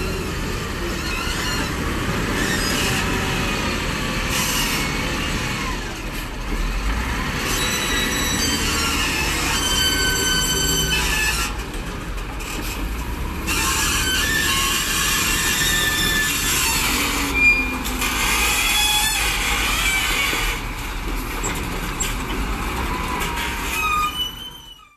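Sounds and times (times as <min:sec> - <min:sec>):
wheel loader diesel engine: 0:00.0 - 0:24.9.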